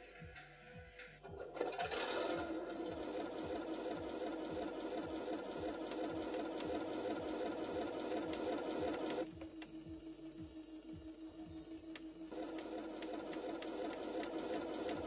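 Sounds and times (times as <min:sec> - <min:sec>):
simulated tank engine idle: 0:02.4 - 0:15.0.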